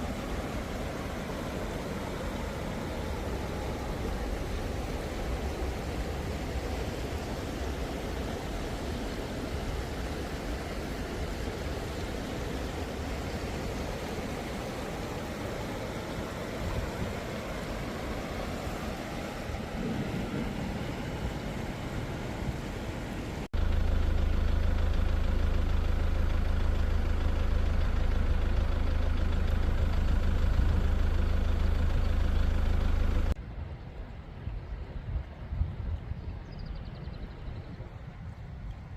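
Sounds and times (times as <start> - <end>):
vehicle engine humming: 0.0 - 33.4.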